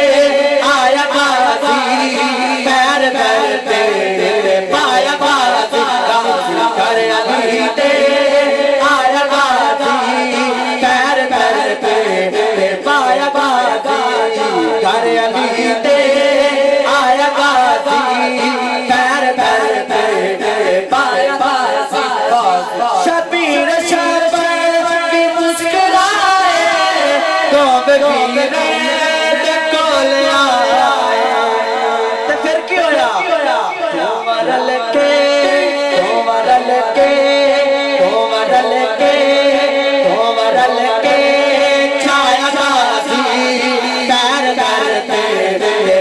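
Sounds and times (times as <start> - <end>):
man singing over pa system: 0.0 - 46.0.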